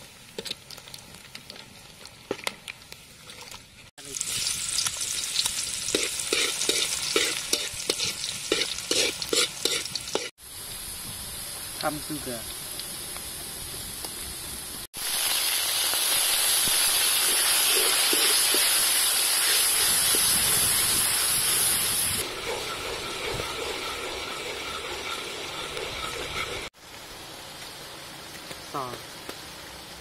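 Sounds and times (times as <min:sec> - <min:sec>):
oil bubbling and crackling: 0:00.0 - 0:11.8, 0:14.9 - 0:30.0
garlic sizzling in hot oil: 0:00.0 - 0:30.0.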